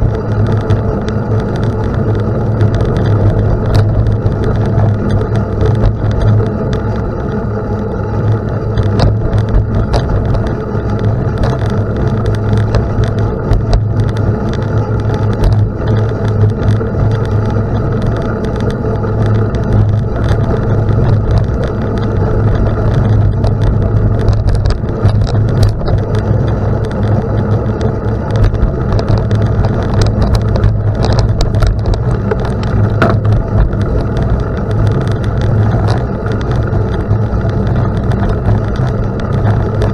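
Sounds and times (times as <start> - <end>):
stones clicking and rattling: 0.0 - 7.4, 8.1 - 39.9
tyre and wind noise: 0.0 - 39.9.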